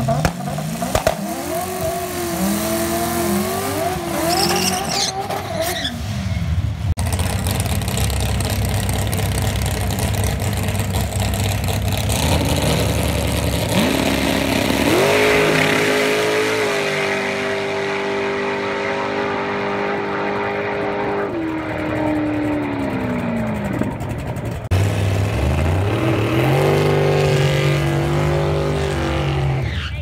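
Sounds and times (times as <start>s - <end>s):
car engine revving: 0.0s - 5.8s, 7.0s - 29.9s.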